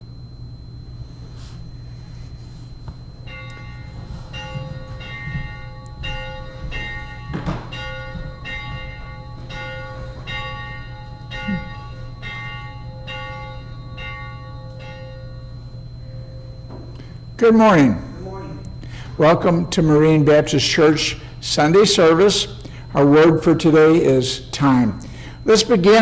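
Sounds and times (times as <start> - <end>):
steady low hum: 0.0 - 26.0
church bell ringing: 2.2 - 26.0.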